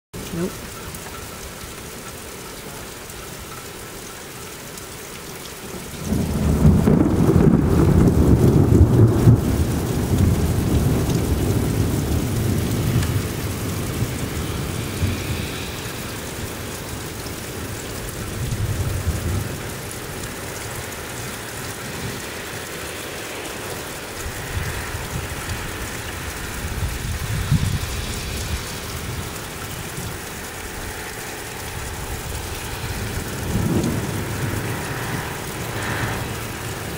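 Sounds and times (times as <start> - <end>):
heavy rain: 0.1 - 36.9
thunder clap and rumble: 5.9 - 36.9.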